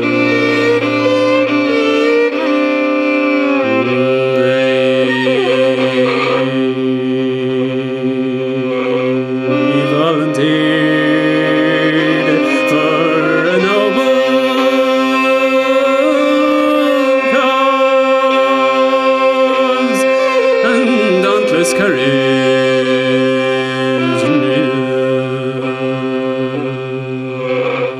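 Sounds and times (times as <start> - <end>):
fiddle playing slow air: 0.0 - 27.9
held drone: 0.0 - 27.9.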